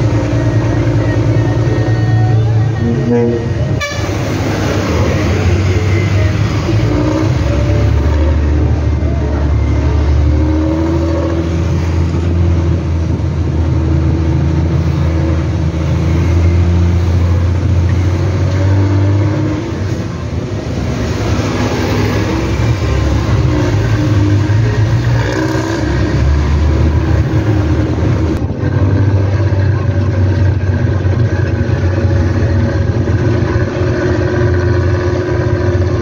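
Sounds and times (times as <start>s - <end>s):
bus diesel engine growling: 0.0s - 36.0s.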